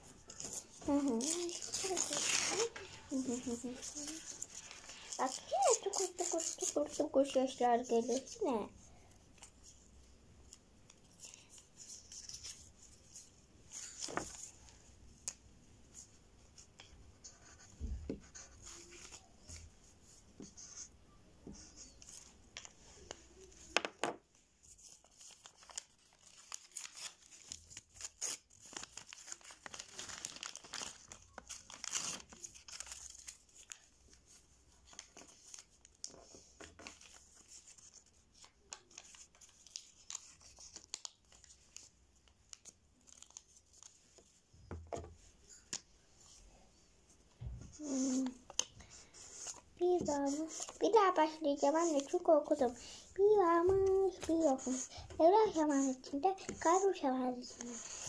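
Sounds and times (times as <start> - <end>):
faint rustling and crinkling: 0.0 - 58.0.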